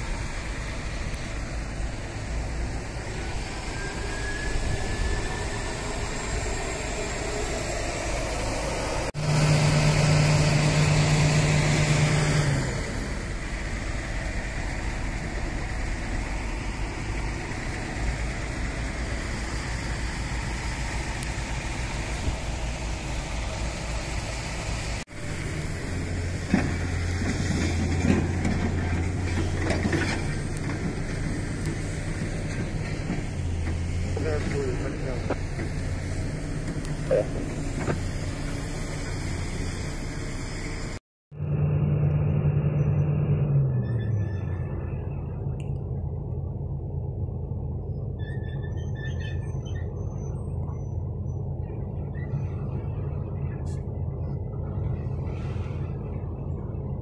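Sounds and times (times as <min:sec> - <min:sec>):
tugboat engine droning: 0:00.0 - 0:57.0.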